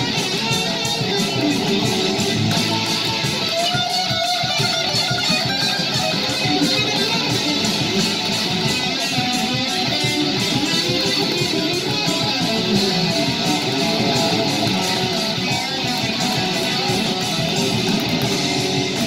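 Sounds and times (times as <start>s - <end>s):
electric guitar: 0.0s - 19.0s
live rock music: 0.0s - 19.0s.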